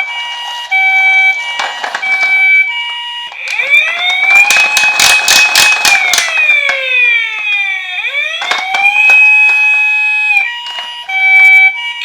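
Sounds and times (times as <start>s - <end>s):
toy electronic siren wailing: 0.0s - 12.0s
sharp clicks and knocks: 1.2s - 11.2s.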